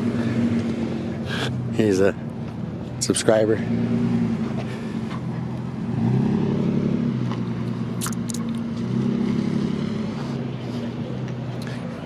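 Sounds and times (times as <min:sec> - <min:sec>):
vehicles driving past: 0:00.0 - 0:12.0.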